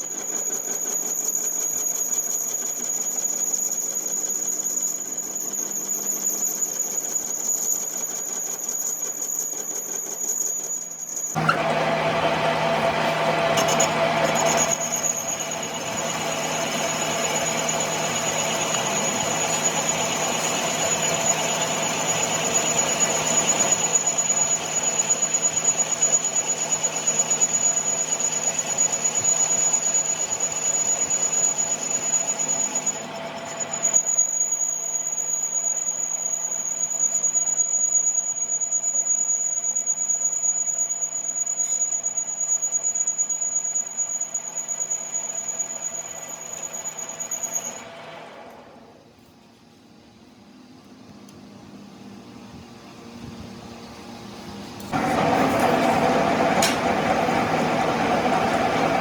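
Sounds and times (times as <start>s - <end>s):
machine high-pitched whine: 0.0s - 49.6s, 52.0s - 59.0s.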